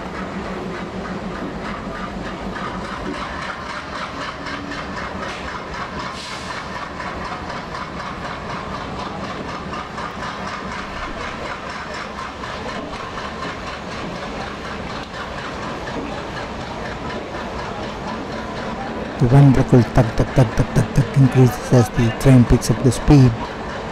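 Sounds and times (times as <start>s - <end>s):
diesel locomotive engine chugging: 0.0s - 23.9s.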